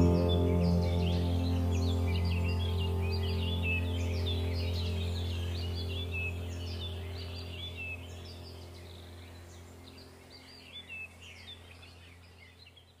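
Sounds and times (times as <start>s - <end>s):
birds chirping and twittering: 0.0s - 13.0s
low steady hum: 0.0s - 13.0s.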